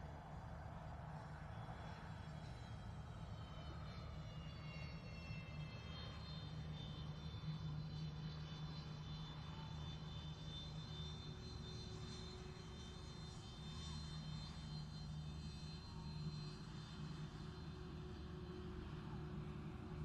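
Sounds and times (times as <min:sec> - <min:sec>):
distant aircraft engines humming: 0:00.0 - 0:20.0.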